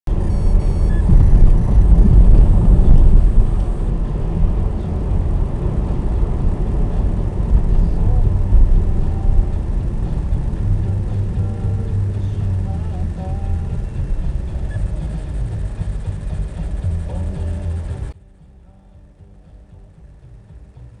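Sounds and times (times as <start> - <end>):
car engine and road rumble: 0.1 - 21.0.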